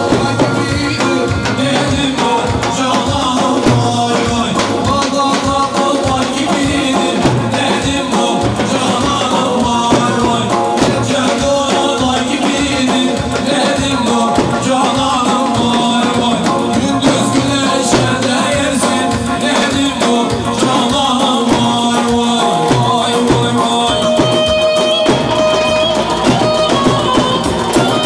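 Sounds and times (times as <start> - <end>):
folk dance music: 0.0 - 28.0
person singing: 0.0 - 28.0
steady drum beat: 0.0 - 28.0.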